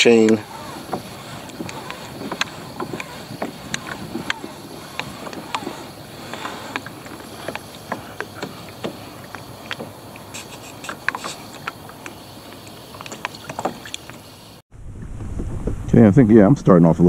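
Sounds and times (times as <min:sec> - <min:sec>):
water lapping against kayak hull: 0:00.0 - 0:14.6
small knocks and clicks: 0:00.1 - 0:14.3.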